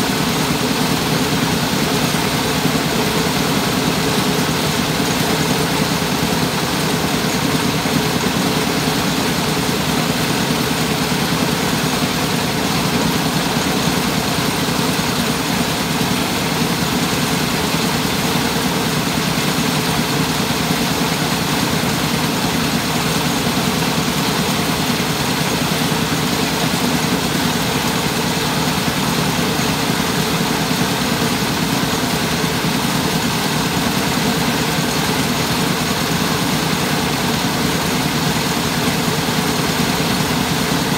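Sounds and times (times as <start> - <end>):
rice-milling machine running: 0.0 - 40.9.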